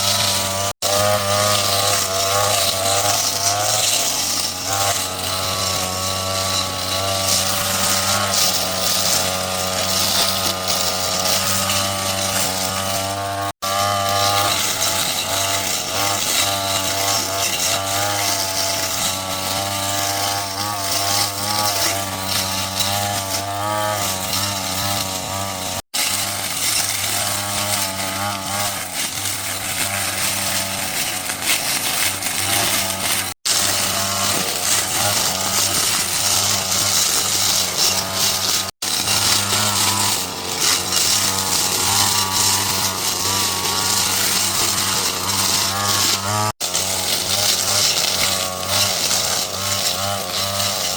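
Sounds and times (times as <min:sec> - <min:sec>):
motorised power tool running: 0:00.0 - 0:50.9.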